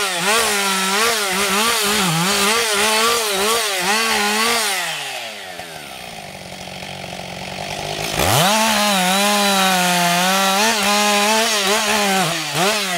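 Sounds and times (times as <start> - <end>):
chainsaw cutting branches: 0.0 - 12.9
chainsaw engine revving and idling: 0.0 - 12.9.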